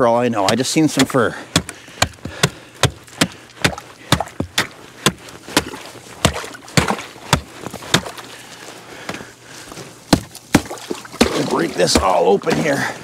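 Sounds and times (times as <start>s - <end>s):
hatchet chopping ice: 0.4s - 8.2s, 10.1s - 12.7s.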